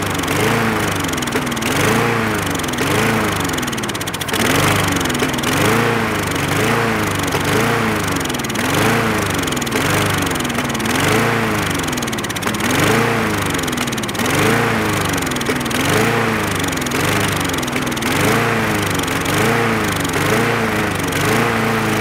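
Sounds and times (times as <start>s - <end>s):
lawn mower engine surging: 0.0s - 22.0s.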